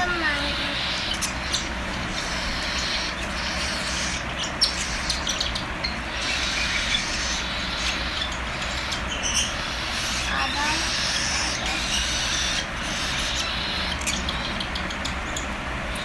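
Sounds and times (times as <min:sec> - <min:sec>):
chicks begging raspy calls: 0:00.0 - 0:16.0
steady low hum: 0:00.0 - 0:16.0.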